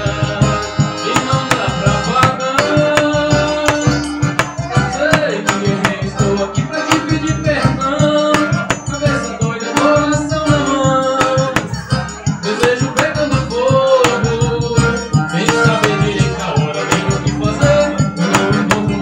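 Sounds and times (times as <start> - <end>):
accordion melody: 0.0 - 19.0
bass drum beat: 0.0 - 19.0.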